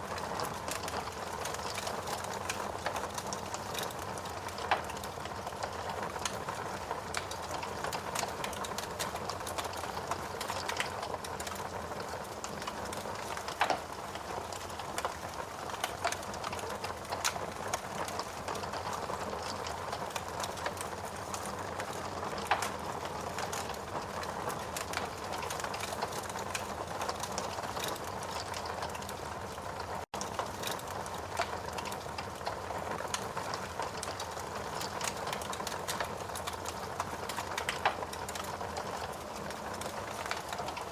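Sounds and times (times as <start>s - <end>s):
steady rain hiss: 0.0s - 40.9s
wood fire crackling: 0.0s - 40.9s.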